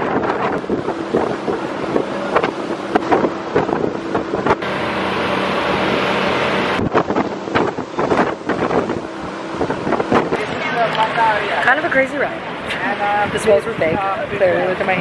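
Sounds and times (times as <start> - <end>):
motorboat engine running: 0.0 - 15.0
wind buffeting microphone: 0.0 - 15.0.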